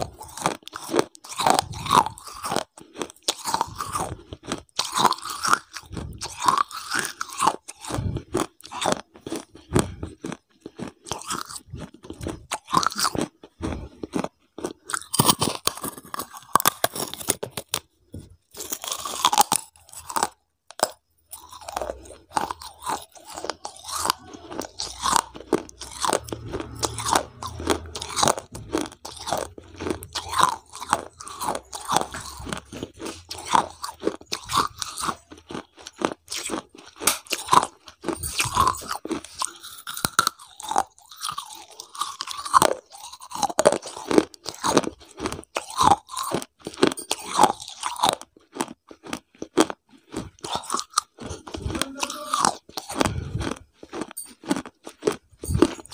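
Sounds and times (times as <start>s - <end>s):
crunching and chewing mouth sounds: 0.0s - 55.9s.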